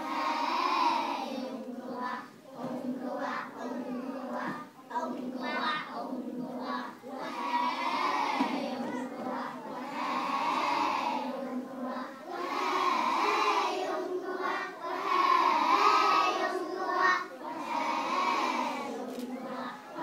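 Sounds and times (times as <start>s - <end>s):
young children singing in unison: 0.0s - 20.0s.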